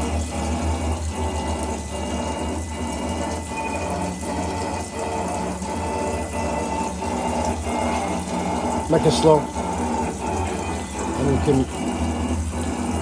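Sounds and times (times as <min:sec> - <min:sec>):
honing machine motor hum: 0:00.0 - 0:13.0.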